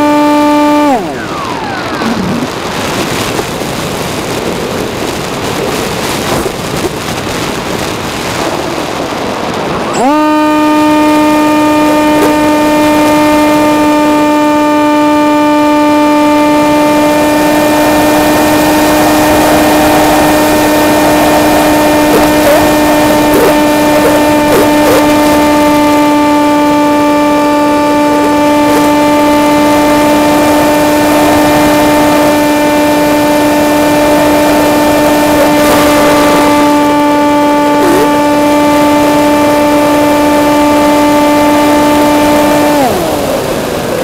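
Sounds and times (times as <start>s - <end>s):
high-pitched motor hum: 0.0s - 9.1s, 9.7s - 44.0s
wind rushing over microphone: 1.0s - 44.0s.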